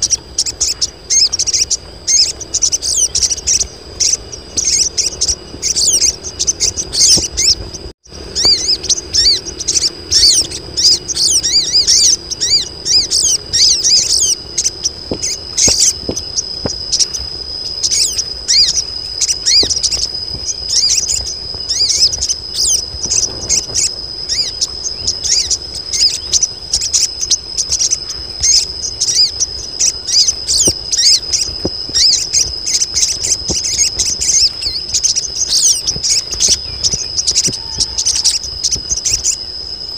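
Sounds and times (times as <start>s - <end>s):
birds twittering and chirping: 0.0s - 39.9s
high insect whine: 0.0s - 39.9s.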